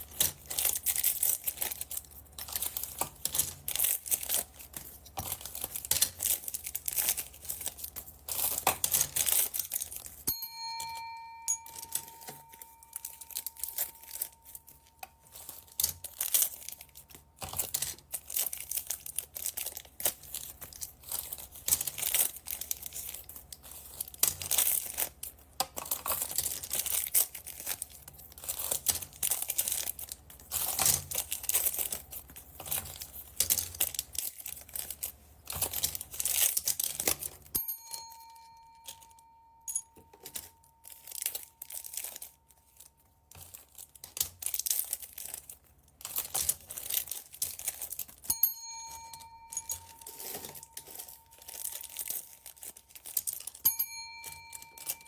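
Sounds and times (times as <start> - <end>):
plastic bags crinkling and tearing: 0.0 - 10.3, 11.8 - 37.5, 40.1 - 55.0.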